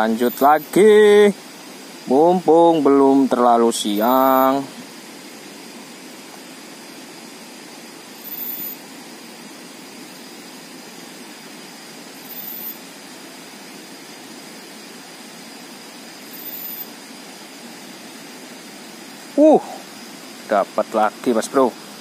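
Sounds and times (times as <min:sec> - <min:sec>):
faint high whine: 0:00.0 - 0:22.0
river flowing: 0:00.0 - 0:22.0.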